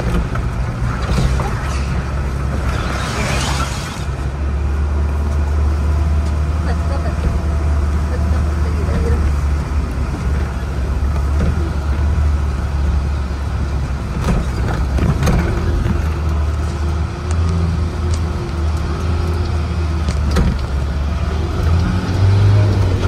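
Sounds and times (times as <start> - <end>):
vehicle knocks and rattles: 0.0 - 3.0, 6.3 - 23.0
vehicle engine running: 0.0 - 23.0.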